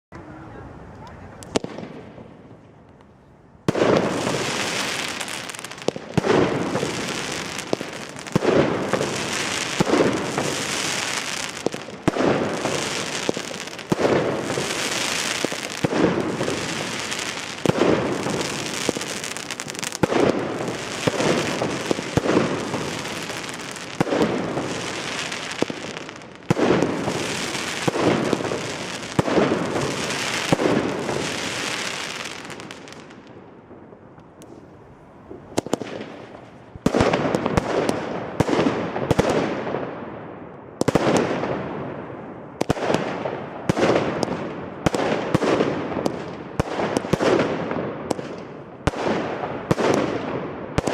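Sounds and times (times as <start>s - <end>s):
firework bangs: 0.2s - 50.9s.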